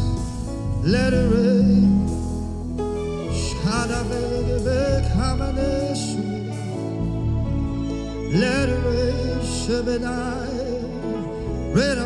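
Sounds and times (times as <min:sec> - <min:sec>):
solo voice singing: 0:00.0 - 0:07.1, 0:08.2 - 0:12.0
bass: 0:00.0 - 0:12.0
sustained keyboard chords: 0:00.0 - 0:12.0.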